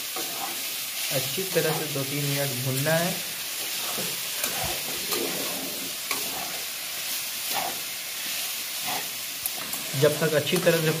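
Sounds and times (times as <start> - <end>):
spatula scraping against a pan: 0.0 - 2.0, 3.4 - 11.0
meat and onion sizzling in a wok: 0.0 - 11.0.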